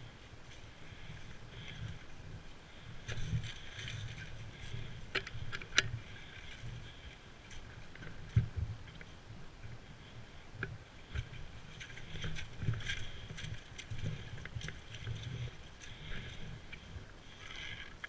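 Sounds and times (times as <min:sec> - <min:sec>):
twigs and leaves crackling: 0:00.0 - 0:18.0.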